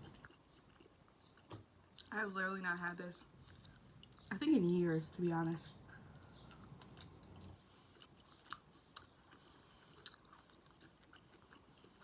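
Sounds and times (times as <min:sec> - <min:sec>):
faint chewing of food: 0:00.0 - 0:02.2, 0:03.2 - 0:04.5, 0:05.7 - 0:12.0.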